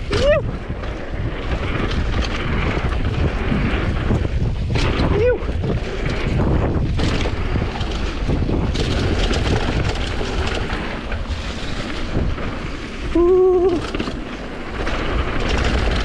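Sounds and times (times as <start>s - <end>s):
mountain bike rattling on dirt trail: 0.0s - 16.0s
wind on camera microphone: 0.0s - 16.0s.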